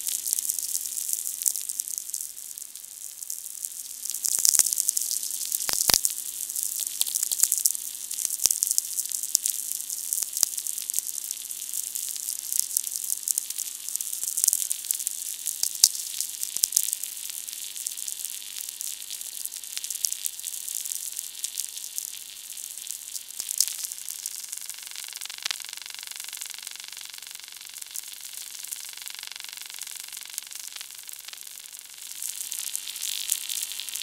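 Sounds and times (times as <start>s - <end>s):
crackling hiss with sharp clicks: 0.0s - 34.0s.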